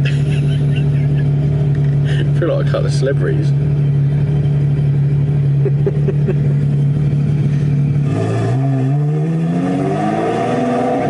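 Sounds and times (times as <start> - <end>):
sports car engine revving: 0.0 - 11.0.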